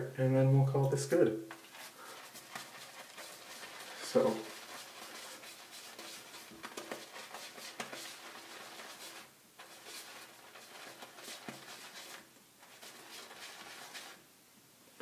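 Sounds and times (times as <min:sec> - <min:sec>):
shaving brush swirling on soap: 0:01.5 - 0:14.2.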